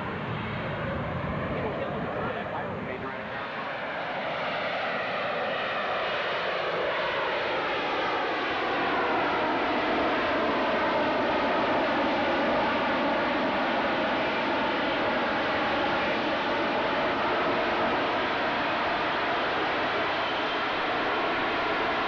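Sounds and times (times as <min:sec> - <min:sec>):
jet engine roaring in hover: 0:00.0 - 0:22.0.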